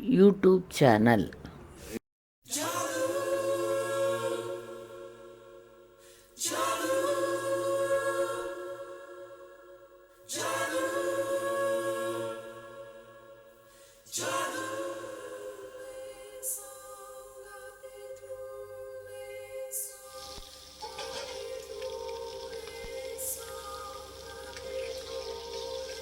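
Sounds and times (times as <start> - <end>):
choir-like vocal chords: 2.5 - 26.0.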